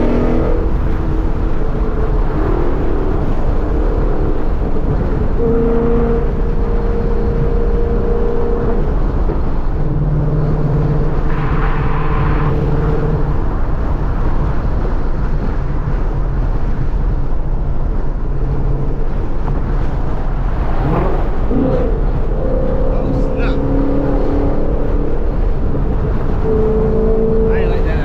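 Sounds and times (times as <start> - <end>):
car engine and exhaust running: 0.0 - 28.0
road noise: 0.0 - 28.0.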